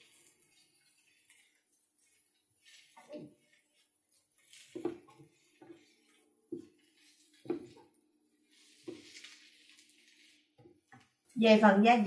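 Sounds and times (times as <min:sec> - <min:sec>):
wooden spatula scraping a pan: 0:00.0 - 0:11.9
faint frying sizzle: 0:00.0 - 0:12.0.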